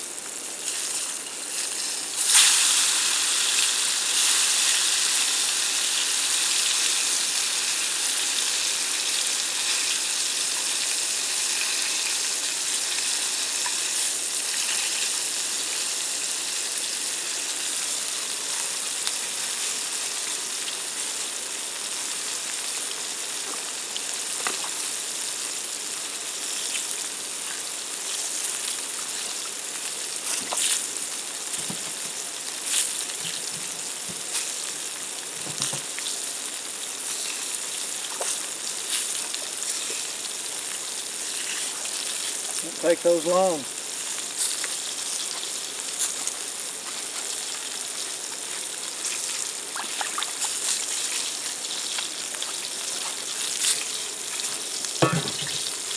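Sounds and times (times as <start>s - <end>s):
fish frying sizzle: 0.0s - 55.9s.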